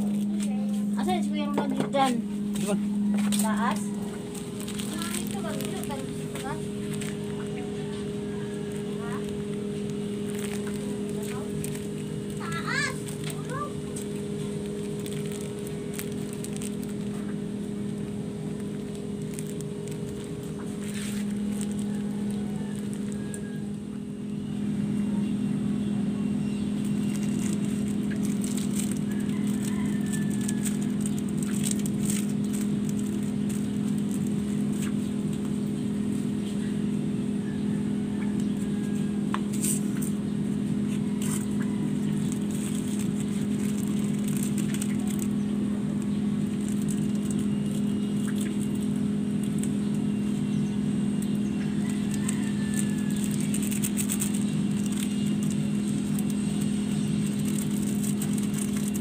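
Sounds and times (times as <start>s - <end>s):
small motor humming: 0.0s - 59.0s
food crackling in a wok: 4.2s - 24.4s, 26.7s - 35.6s, 40.8s - 59.0s.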